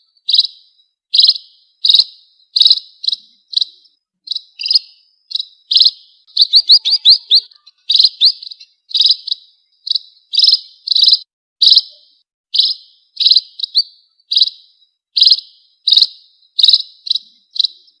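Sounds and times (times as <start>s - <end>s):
high bird chirps: 0.0s - 18.0s.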